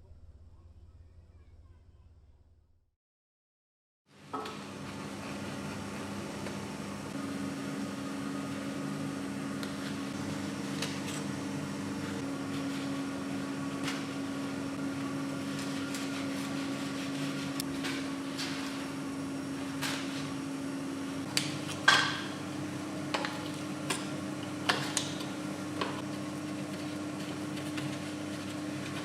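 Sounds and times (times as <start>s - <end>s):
electric machine humming: 4.3s - 29.0s.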